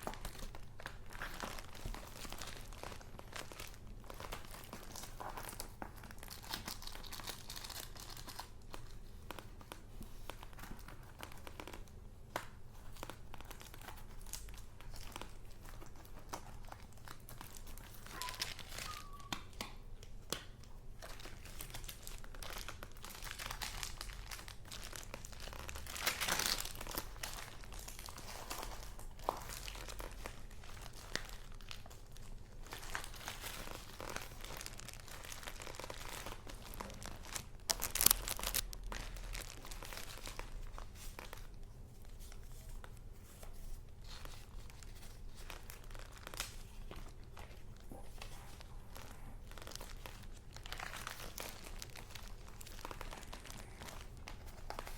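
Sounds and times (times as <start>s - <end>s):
paper rustling and crinkling: 0.0s - 54.9s.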